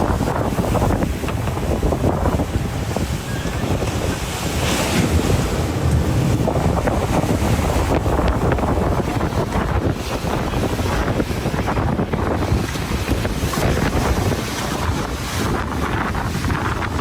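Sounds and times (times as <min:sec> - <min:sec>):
rough sea and breaking waves: 0:00.0 - 0:17.0
wind buffeting microphone: 0:00.0 - 0:17.0.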